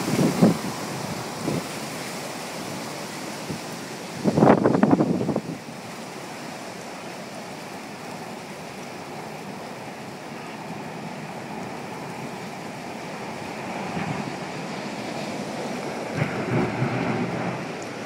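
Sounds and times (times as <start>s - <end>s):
storm wind blowing: 0.0s - 18.0s.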